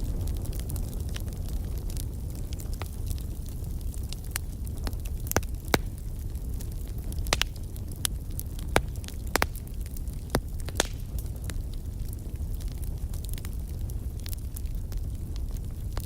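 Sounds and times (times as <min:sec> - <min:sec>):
fire crackling and popping: 0:00.0 - 0:16.0
low rumble of burning fire: 0:00.0 - 0:16.0.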